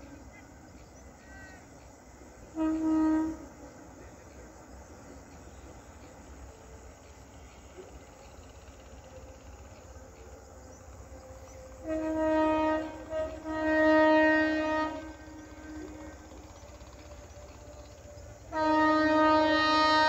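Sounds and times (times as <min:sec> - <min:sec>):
train horn blasts: 0:01.2 - 0:07.9, 0:09.4 - 0:20.0.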